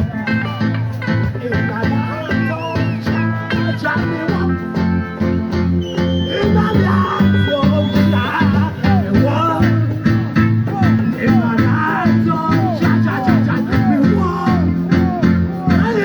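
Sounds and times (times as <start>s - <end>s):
bass line: 0.0s - 16.0s
guitar: 0.0s - 16.0s.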